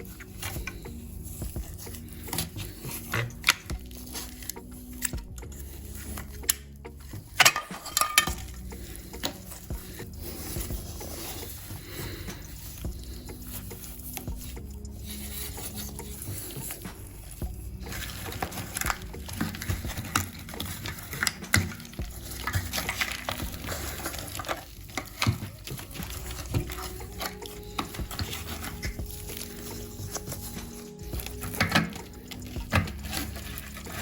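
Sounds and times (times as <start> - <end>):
small tools clicking and scraping: 0.0 - 34.0.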